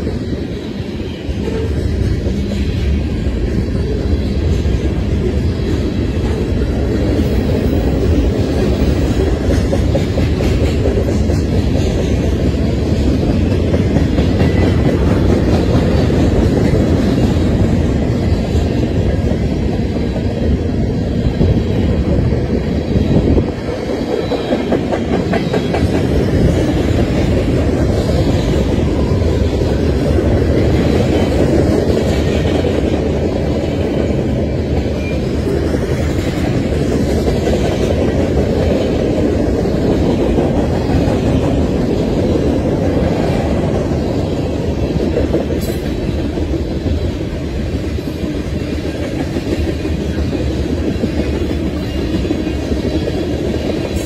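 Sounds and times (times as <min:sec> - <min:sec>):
freight train rolling past: 0:00.0 - 0:54.0
steel wheels rumbling on rails: 0:00.0 - 0:54.0.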